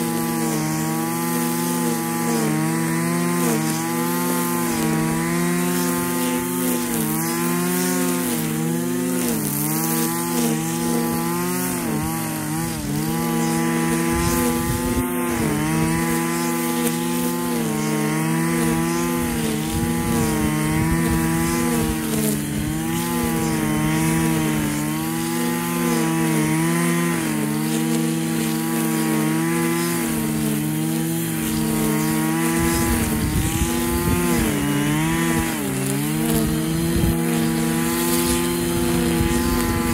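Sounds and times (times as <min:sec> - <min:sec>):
brushcutter cutting grass: 0:00.0 - 0:39.9.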